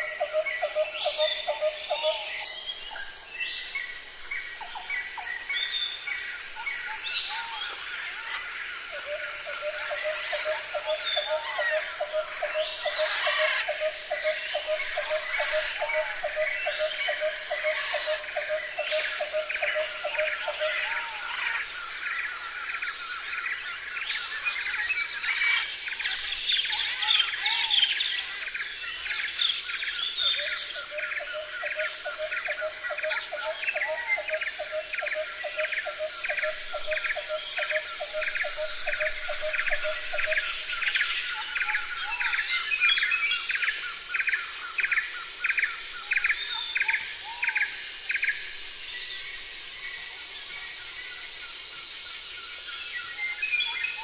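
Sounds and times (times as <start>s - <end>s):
steady high hiss: 1.4s - 54.0s.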